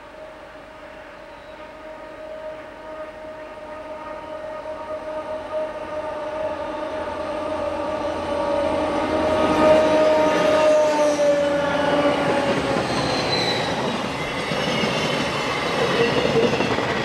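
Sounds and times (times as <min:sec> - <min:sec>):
diesel locomotives droning: 0:00.0 - 0:17.0.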